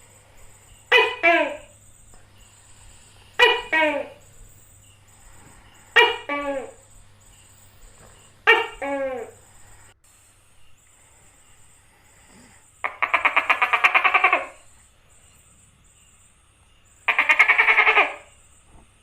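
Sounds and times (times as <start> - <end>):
gecko rattling calls: 0.0 - 18.7.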